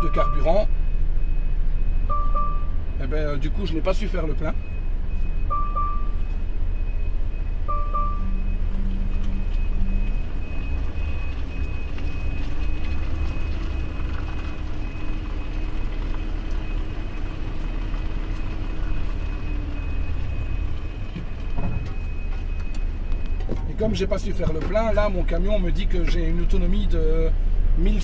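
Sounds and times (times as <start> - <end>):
truck engine low rumble: 0.0 - 28.0.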